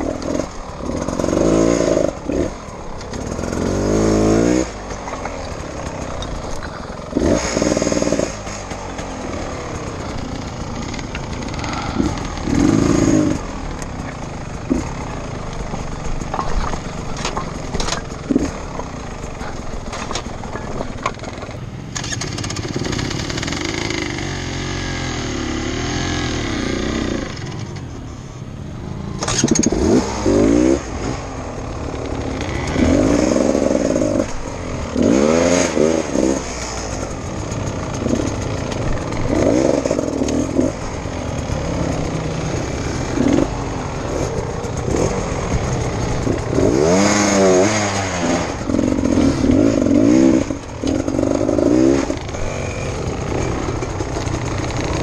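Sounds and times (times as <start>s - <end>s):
dirt bike engine revving: 0.0s - 27.8s, 29.0s - 55.0s.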